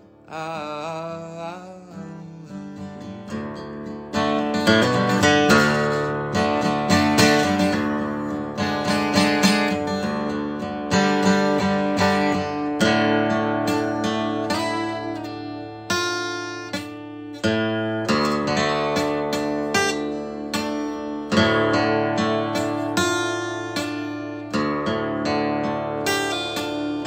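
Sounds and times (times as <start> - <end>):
acoustic guitar strummed: 0.0 - 27.0.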